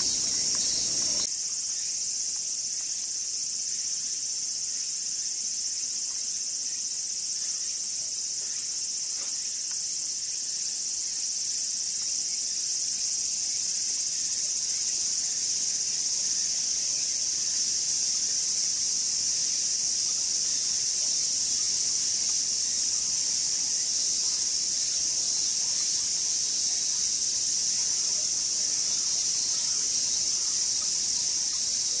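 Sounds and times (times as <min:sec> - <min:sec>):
shrill insect chorus: 0:00.0 - 0:32.0.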